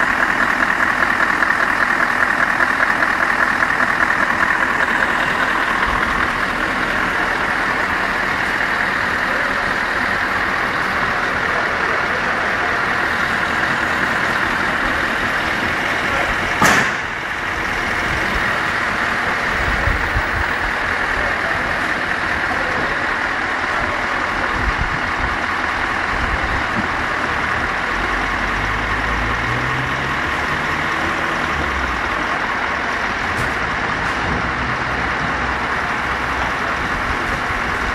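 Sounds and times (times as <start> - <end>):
diesel truck engine running: 0.0 - 37.9.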